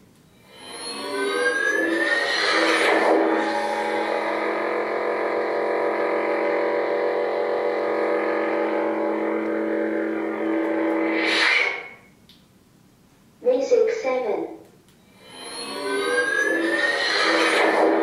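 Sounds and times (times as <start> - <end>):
lightsaber hum: 0.4 - 12.1, 15.0 - 18.0.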